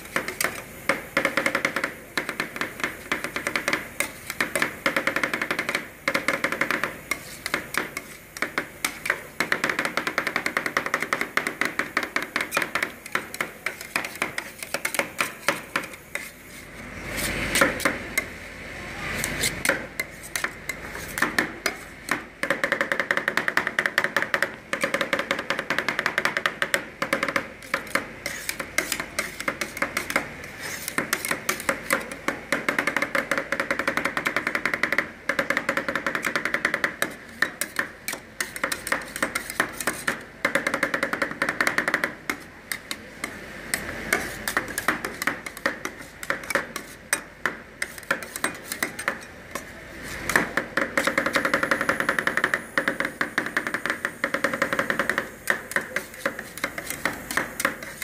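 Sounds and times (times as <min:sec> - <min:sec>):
metal spatulas chopping on steel pan: 0:00.0 - 0:16.4, 0:17.1 - 0:18.3, 0:19.2 - 0:58.0.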